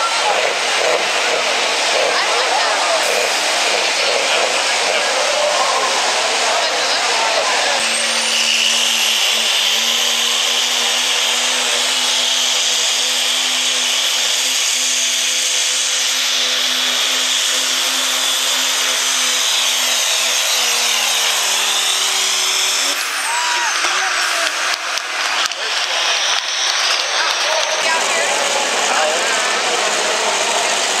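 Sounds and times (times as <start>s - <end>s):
loud diesel engine drone: 0.0s - 31.0s
high turbocharger whistle: 1.2s - 31.0s.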